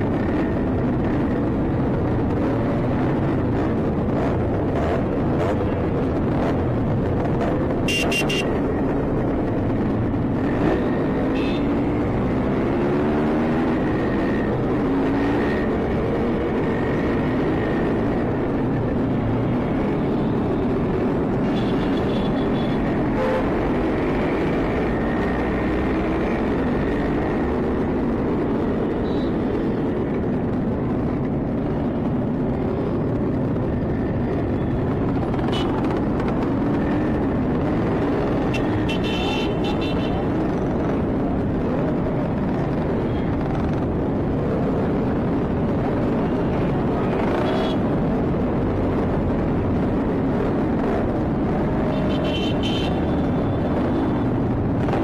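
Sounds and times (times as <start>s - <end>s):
two-stroke motorcycle engines revving: 0.0s - 55.0s.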